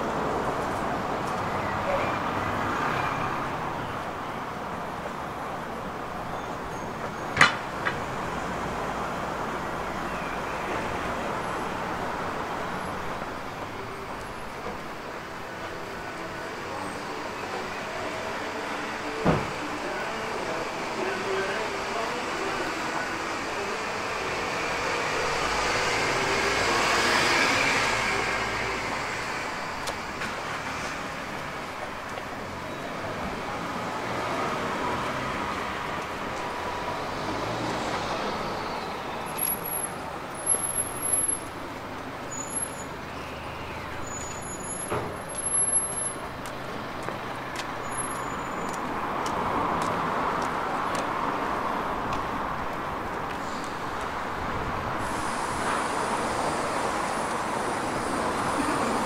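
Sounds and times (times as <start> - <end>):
road traffic: 0.0 - 59.0.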